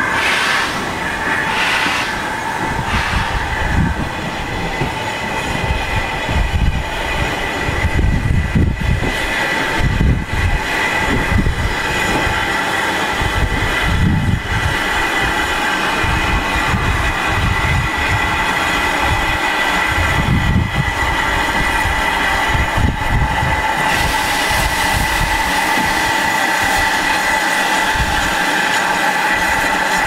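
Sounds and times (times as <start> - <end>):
steam engine exhaust beats: 0.0 - 30.0
train rumbling over rails: 0.0 - 30.0.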